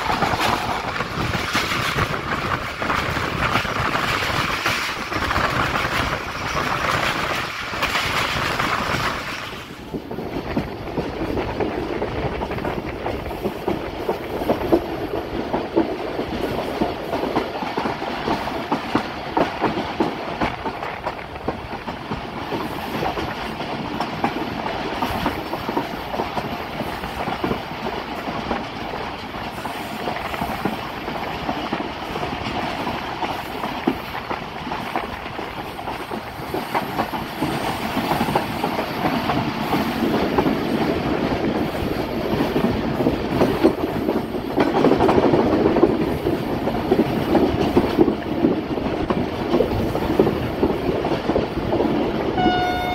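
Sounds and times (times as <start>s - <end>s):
train wheels clattering: 0.0s - 52.9s.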